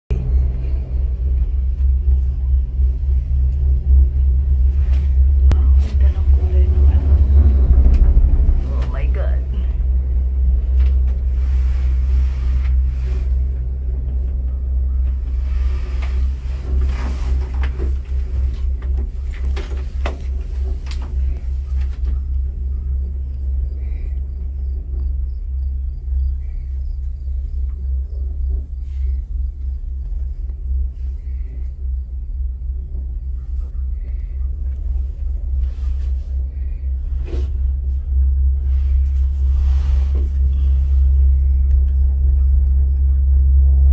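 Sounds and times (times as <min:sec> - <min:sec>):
gondola cabin rumbling: 0:00.0 - 0:43.9.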